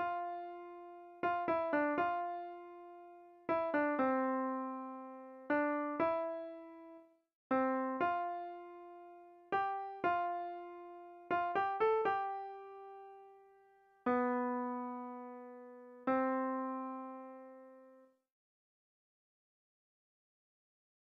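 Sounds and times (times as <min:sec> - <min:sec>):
slow solo piano melody: 0:00.0 - 0:18.0.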